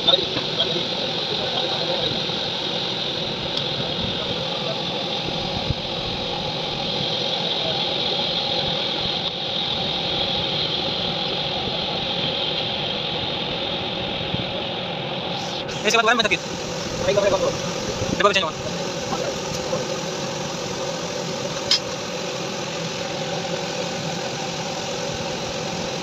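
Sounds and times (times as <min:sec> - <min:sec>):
gas torch burning: 0:00.0 - 0:26.0.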